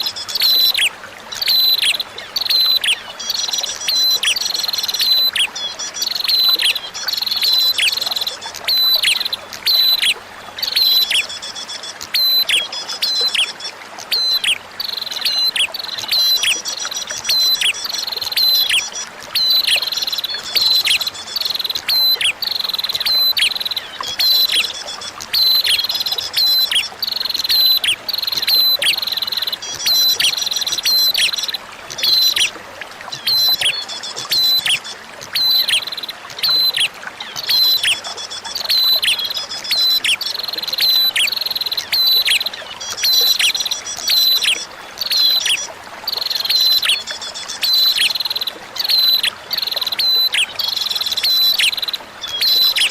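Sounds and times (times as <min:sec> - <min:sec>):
flowing water: 0:00.0 - 0:52.9.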